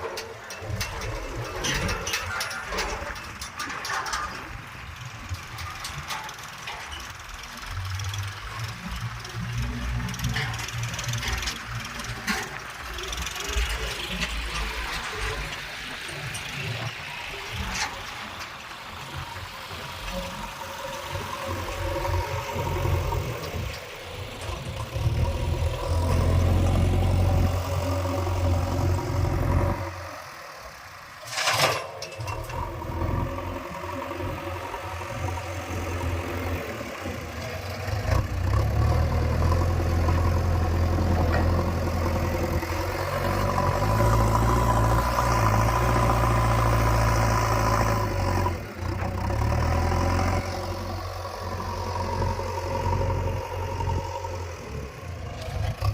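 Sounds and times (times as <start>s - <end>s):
backhoe diesel engine labouring: 0.0s - 55.9s.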